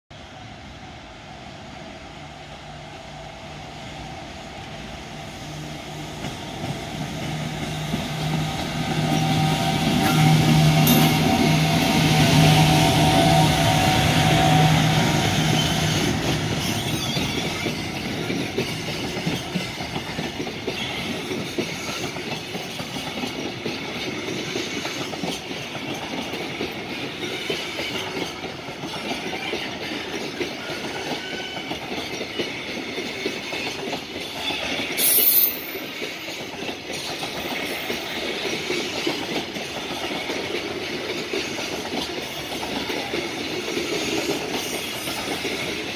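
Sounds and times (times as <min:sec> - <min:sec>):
electric locomotive humming: 0:00.2 - 0:45.9
train wheels clattering: 0:06.2 - 0:45.9.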